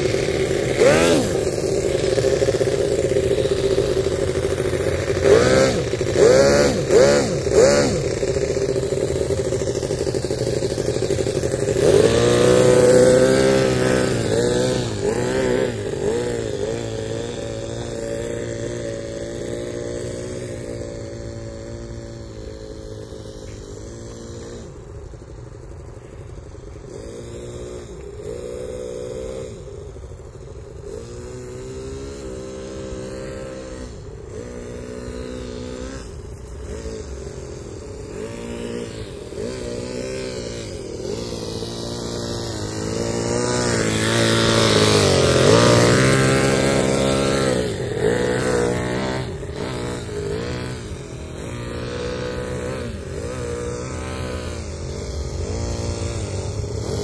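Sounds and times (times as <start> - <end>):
miniature gas engine revving: 0.0 - 57.0.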